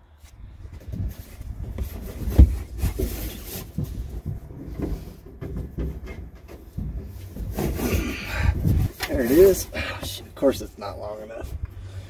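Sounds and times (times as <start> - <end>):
hands rummaging in ceiling panel: 0.6 - 10.3.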